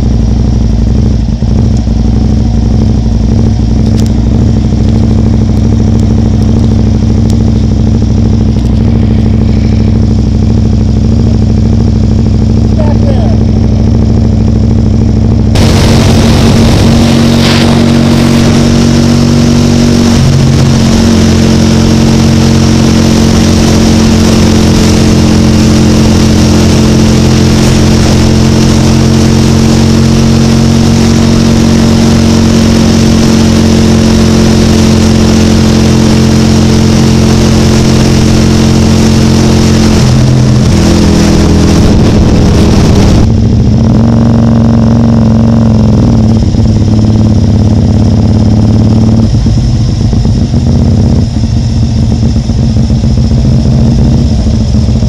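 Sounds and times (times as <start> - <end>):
motorcycle engine cruising: 0.0 - 55.0
road noise: 0.0 - 55.0.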